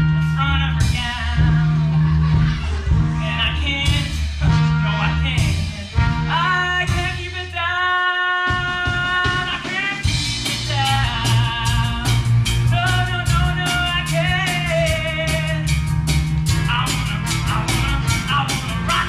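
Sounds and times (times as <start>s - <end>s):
man singing: 0.0s - 2.2s, 3.0s - 15.8s, 16.5s - 19.0s
rock band accompaniment: 0.0s - 7.5s, 8.4s - 19.0s.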